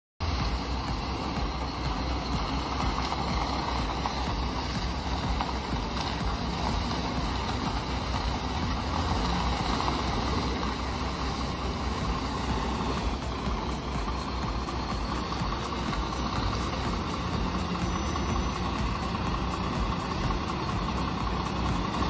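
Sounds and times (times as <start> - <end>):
hiss: 0.2 - 22.0
truck diesel engine rumbling: 0.2 - 22.0.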